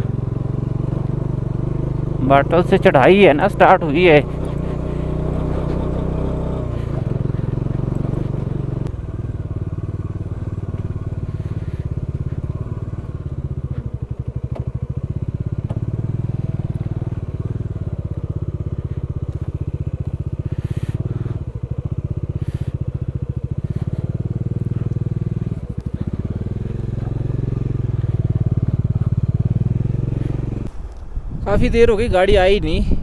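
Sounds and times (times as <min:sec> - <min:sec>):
motorcycle engine pulling at low revs: 0:00.0 - 0:33.0.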